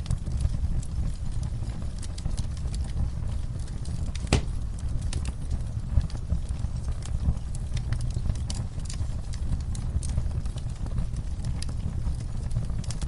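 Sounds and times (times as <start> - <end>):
fire popping and snapping: 0.0 - 13.0
low rumble of flames: 0.0 - 13.0.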